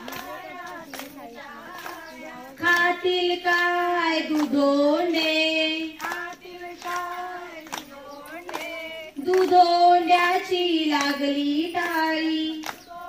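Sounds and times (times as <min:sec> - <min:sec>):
hand claps: 0:00.0 - 0:13.0
women singing in long notes: 0:00.0 - 0:13.0.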